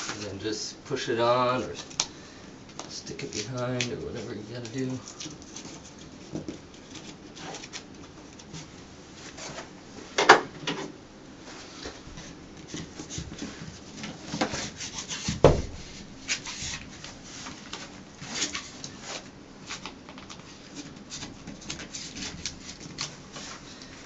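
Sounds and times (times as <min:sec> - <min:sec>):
rustling of material on wall: 0:00.0 - 0:24.0.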